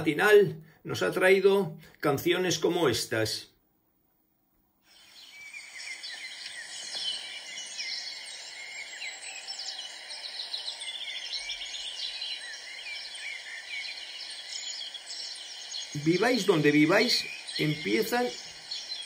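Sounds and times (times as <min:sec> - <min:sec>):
songbirds chirping and trilling: 0:00.0 - 0:03.6, 0:04.8 - 0:19.0.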